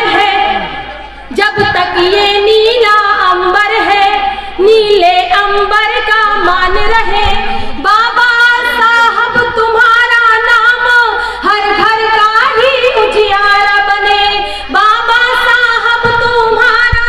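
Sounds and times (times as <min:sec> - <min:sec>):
woman singing into microphones: 0:00.0 - 0:17.0.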